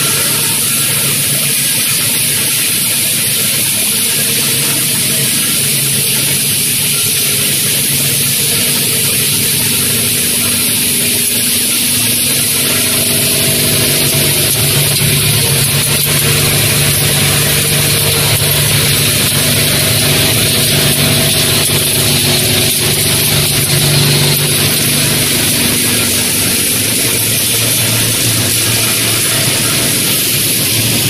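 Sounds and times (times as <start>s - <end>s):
loud machine drone: 0.0s - 31.0s.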